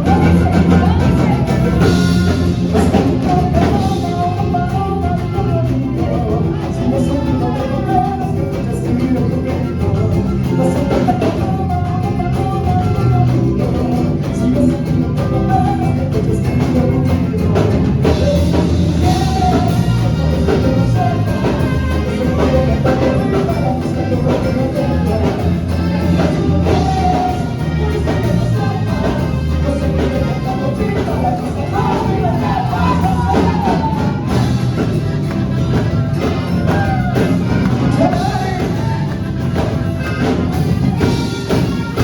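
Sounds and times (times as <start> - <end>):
latin music with singing: 0.0 - 42.0.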